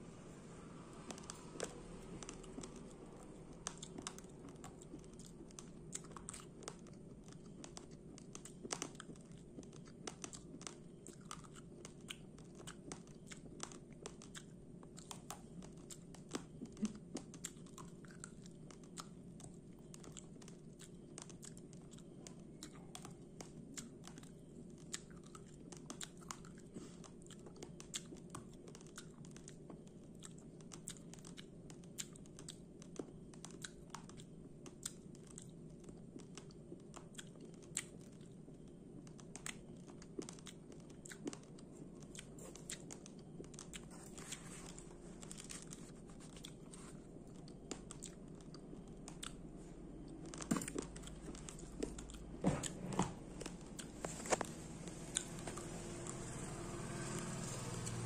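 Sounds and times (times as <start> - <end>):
chewing raw rice crunches: 1.0 - 49.4, 50.0 - 52.3.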